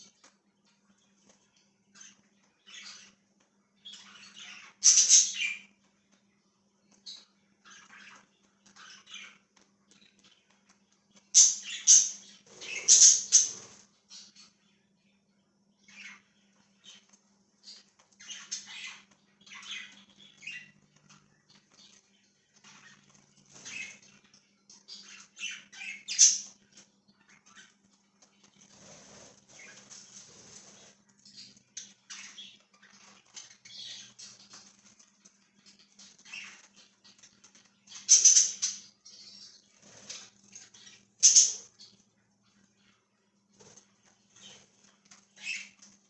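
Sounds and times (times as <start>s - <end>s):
budgies chirping: 0.0s - 46.0s
faint low hum: 0.0s - 46.0s.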